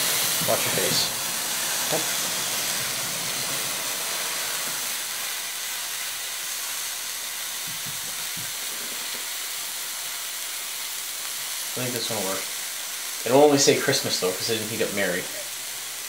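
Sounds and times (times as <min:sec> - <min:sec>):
hot iron hissing on steak: 0:00.0 - 0:16.0.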